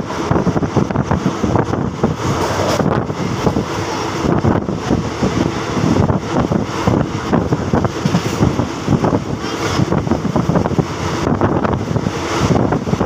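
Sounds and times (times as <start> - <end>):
passenger train rumbling: 0.0 - 13.0
wind buffeting microphone: 0.0 - 13.0.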